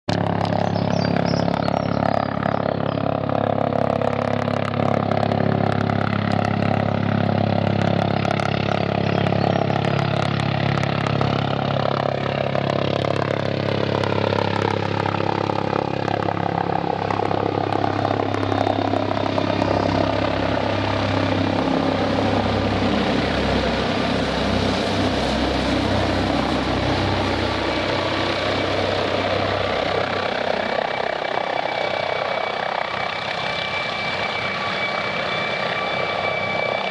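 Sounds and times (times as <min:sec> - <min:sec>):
helicopter flying overhead: 0:00.0 - 0:36.9
high turbine whine: 0:00.1 - 0:36.9.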